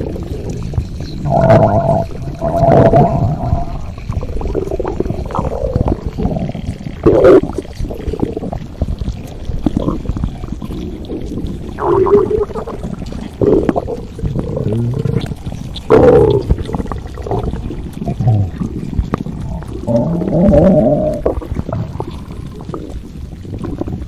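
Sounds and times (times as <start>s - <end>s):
stomach growling and gurgling: 0.0s - 24.0s.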